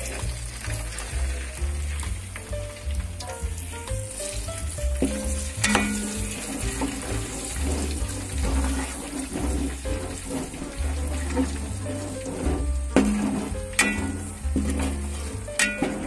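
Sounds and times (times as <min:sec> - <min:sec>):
garlic sizzling in oil: 0:00.0 - 0:16.0.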